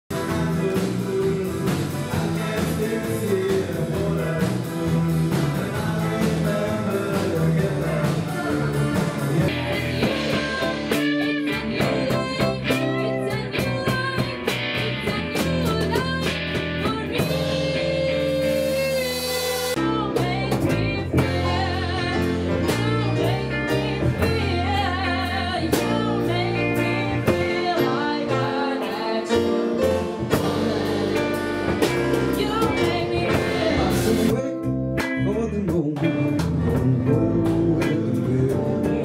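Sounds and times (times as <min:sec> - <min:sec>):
live rock blues band: 0:00.1 - 0:39.0
person singing: 0:00.1 - 0:39.0.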